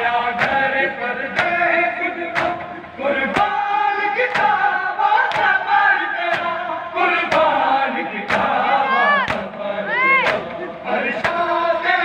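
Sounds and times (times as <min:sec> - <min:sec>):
crowd of men chanting: 0:00.0 - 0:12.0.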